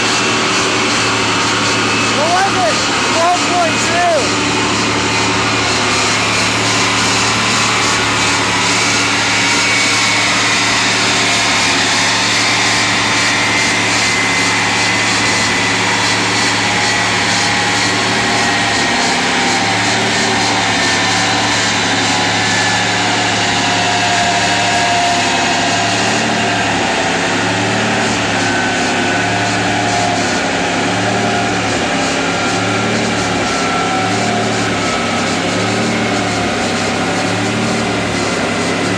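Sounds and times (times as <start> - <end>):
low pulsing: 0.0 - 36.6
car engine drone with high whine: 0.0 - 38.9.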